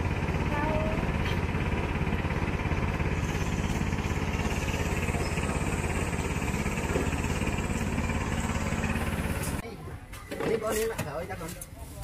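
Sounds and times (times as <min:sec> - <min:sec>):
small engine idling: 0:00.0 - 0:09.6.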